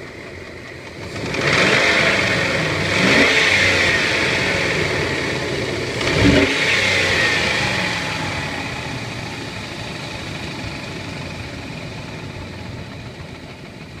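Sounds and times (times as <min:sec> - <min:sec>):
engine idling with tapping: 0:00.0 - 0:14.0.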